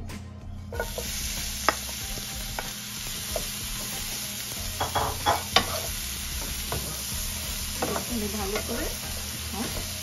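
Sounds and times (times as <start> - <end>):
vegetables sizzling in oil: 0.7 - 10.0.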